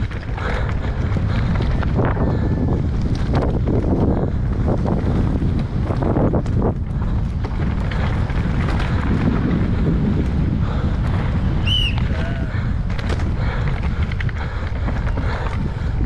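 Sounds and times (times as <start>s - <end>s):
bike knocking and rattling: 0.0s - 16.0s
tyres rolling over dirt and rock: 0.0s - 16.0s
wind buffeting microphone: 0.0s - 16.0s.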